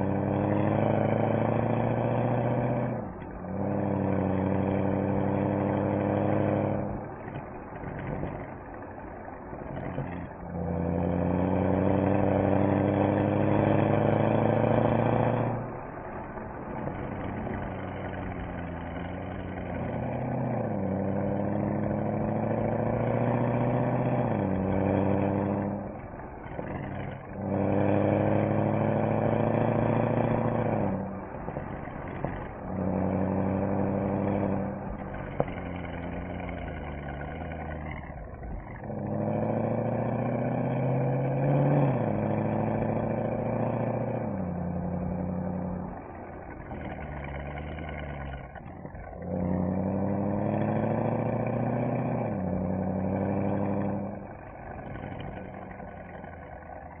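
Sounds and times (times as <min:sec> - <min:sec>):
car exhaust accelerating: 0:00.0 - 0:57.0.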